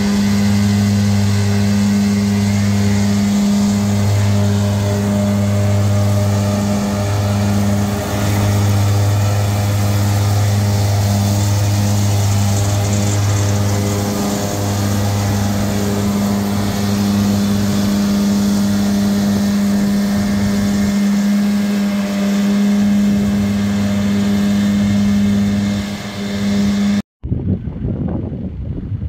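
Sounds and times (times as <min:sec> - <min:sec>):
mower droning: 0:00.0 - 0:27.0.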